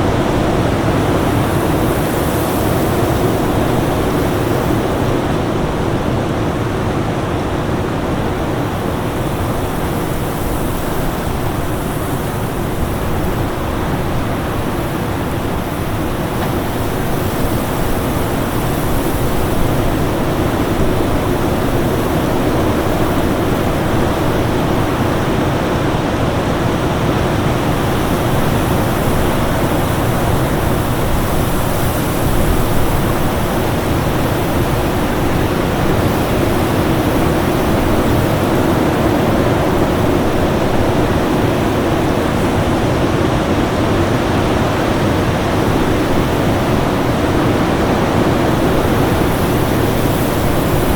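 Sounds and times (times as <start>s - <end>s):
strong wind rushing: 0.0s - 50.9s.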